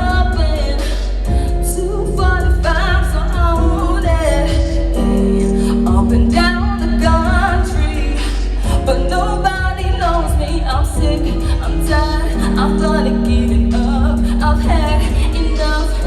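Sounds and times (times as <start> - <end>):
regular drum beat: 0.0 - 15.8
held bass notes: 0.0 - 16.0
person singing: 0.0 - 16.0.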